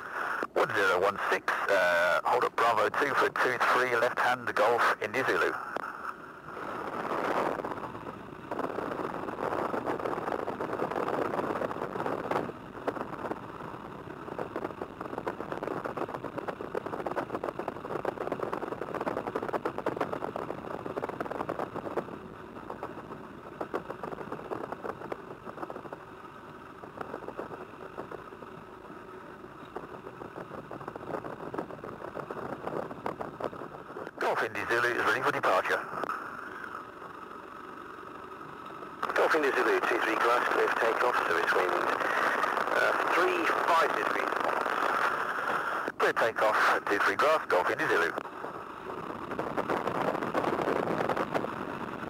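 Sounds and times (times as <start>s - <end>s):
propeller plane engine running: 0.0s - 52.0s.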